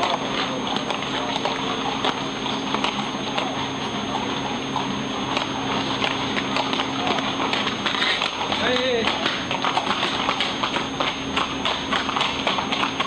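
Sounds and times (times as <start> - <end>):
horse hooves on pavement: 0.0 - 13.0.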